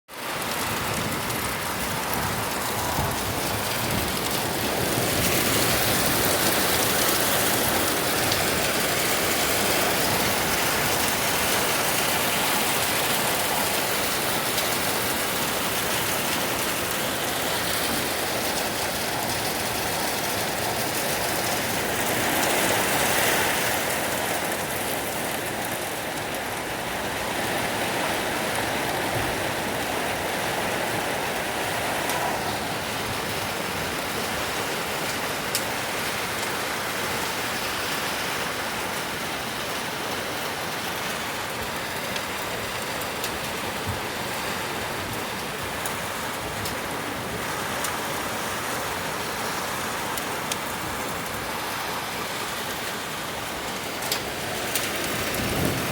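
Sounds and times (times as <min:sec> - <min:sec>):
heavy rain and hail: 0:00.1 - 0:55.9.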